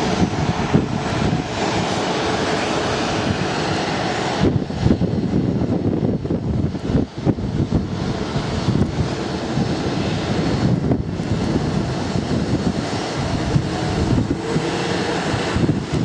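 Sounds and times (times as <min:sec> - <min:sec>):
jet engines rumbling: 0:00.0 - 0:16.0
wind buffeting microphone: 0:00.0 - 0:16.0.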